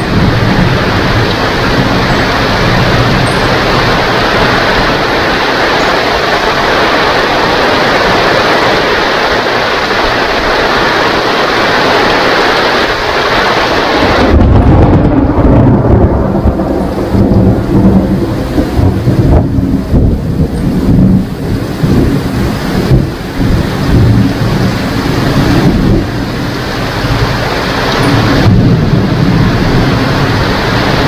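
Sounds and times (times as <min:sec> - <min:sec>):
heavy rain falling: 0:00.0 - 0:31.0
thunder rumble: 0:00.0 - 0:31.0.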